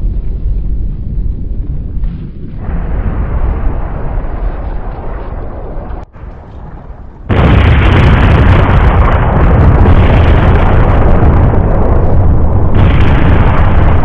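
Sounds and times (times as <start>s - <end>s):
explosion with deep rumble: 0.0s - 14.0s.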